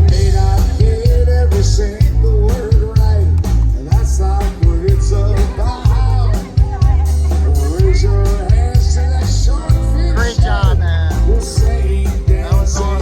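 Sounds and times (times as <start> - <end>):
person singing: 0.0 - 13.0
rock band playing: 0.0 - 13.0.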